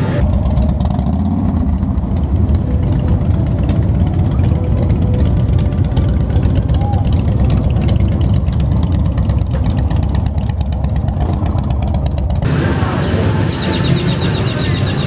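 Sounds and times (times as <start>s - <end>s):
motorcycle engine rumbling: 0.0s - 15.0s
quiet street sounds: 0.0s - 15.0s.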